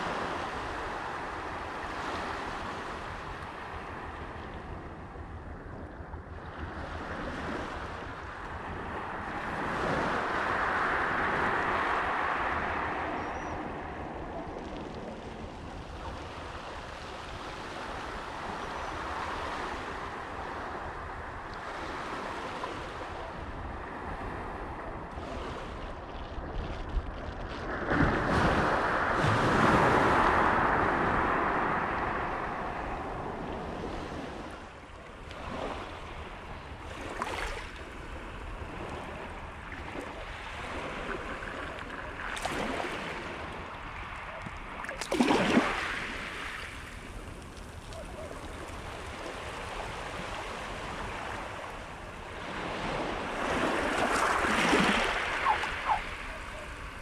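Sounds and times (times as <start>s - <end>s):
waves washing on shingle beach: 0.0s - 4.4s, 6.7s - 57.0s
low wind rumble on microphone: 0.0s - 57.0s.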